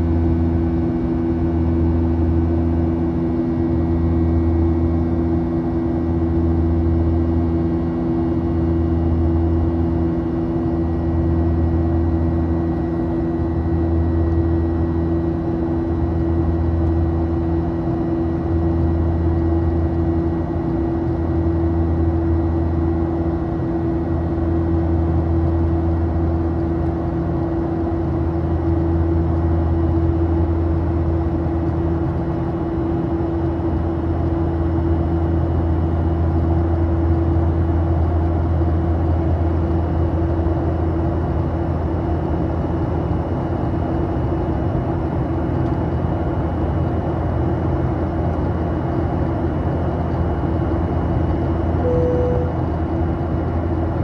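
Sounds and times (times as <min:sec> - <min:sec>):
airplane cabin engine drone: 0:00.0 - 0:54.0
low pulsing hum: 0:00.0 - 0:54.0.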